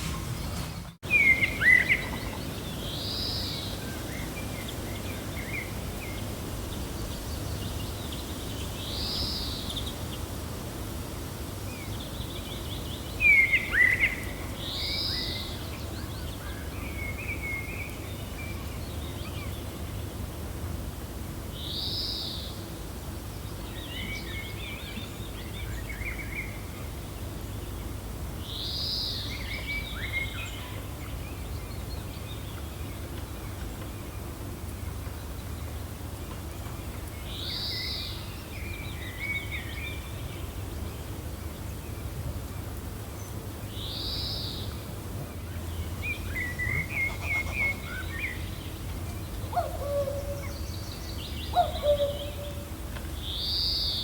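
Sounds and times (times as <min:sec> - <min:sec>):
gentle wind: 0:00.0 - 0:54.0
songbirds chirping: 0:00.0 - 0:54.0.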